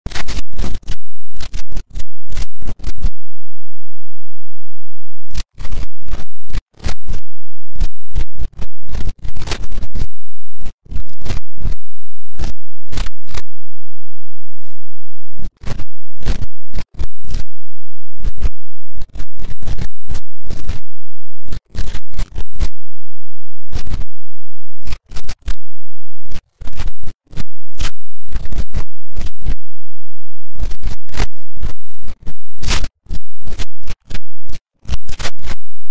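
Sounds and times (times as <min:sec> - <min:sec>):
distorted crackling noise bursts: 0:00.1 - 0:35.9.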